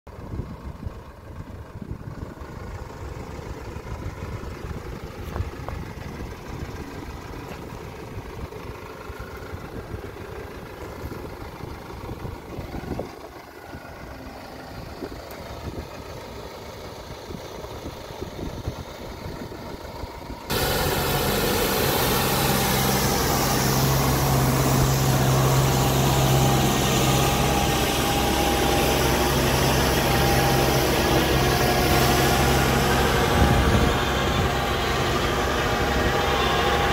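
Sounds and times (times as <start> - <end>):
tractor engine running: 0.1 - 36.9.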